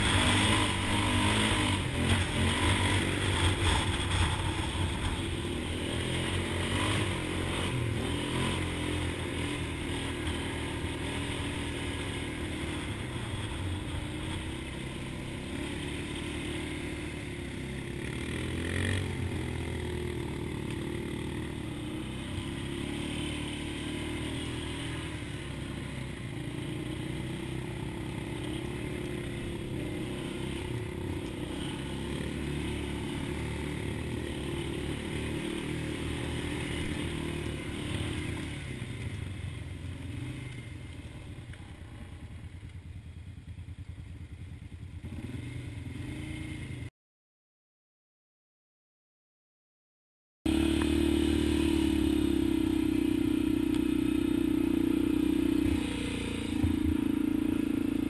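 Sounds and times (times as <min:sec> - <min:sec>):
off-road vehicle engine running: 0:00.0 - 0:46.9, 0:50.5 - 0:58.0.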